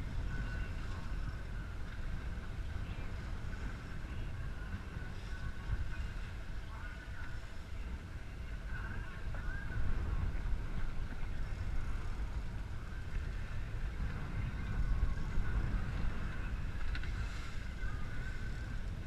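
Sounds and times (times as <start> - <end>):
sea noise: 0.0 - 19.0
wind: 0.0 - 19.0.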